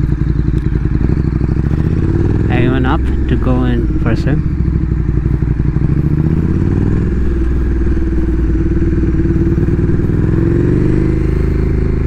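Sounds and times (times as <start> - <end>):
motorcycle engine running slowly: 0.0 - 12.0.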